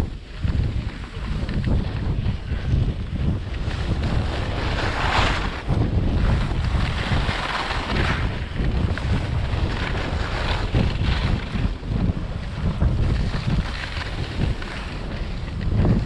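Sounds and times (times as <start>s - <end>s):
skis sliding over snow: 0.0s - 16.0s
wind buffeting microphone: 0.0s - 16.0s.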